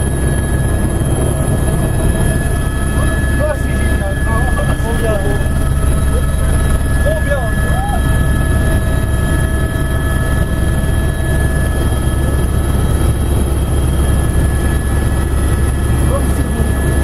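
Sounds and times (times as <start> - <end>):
helicopter rotor and engine rumble: 0.0 - 17.0
high-pitched turbine whine: 0.0 - 17.0.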